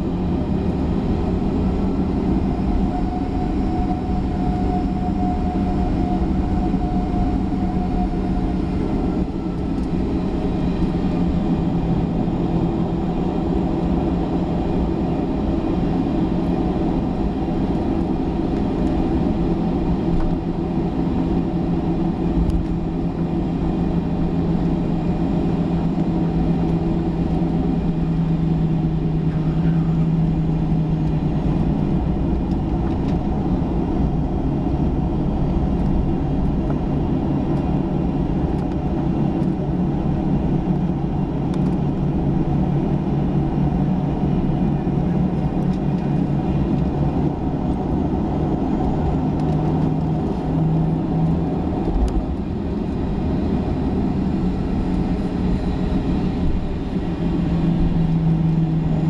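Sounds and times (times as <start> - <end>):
jet engines low hum: 0.0 - 59.0.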